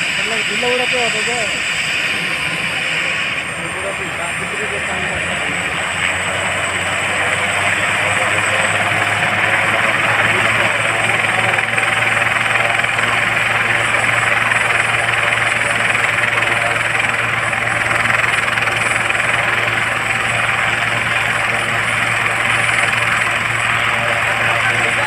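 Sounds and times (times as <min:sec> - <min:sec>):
helicopter running on the ground: 0:00.0 - 0:25.0.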